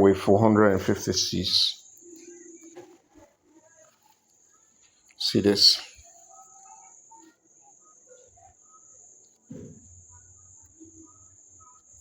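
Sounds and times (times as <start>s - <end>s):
crickets trilling: 0.0s - 2.8s, 3.4s - 12.0s.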